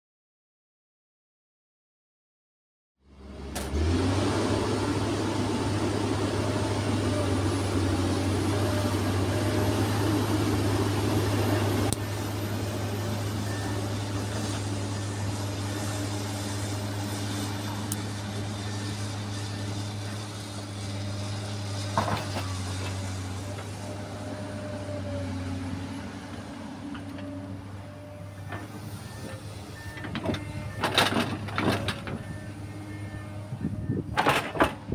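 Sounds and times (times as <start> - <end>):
excavator diesel engine running: 3.0 - 34.9.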